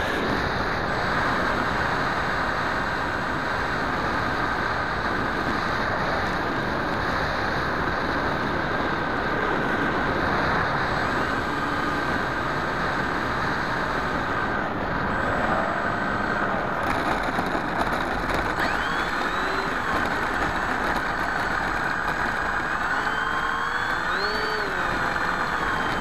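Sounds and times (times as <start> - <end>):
propeller and motor whine: 0.0 - 26.0.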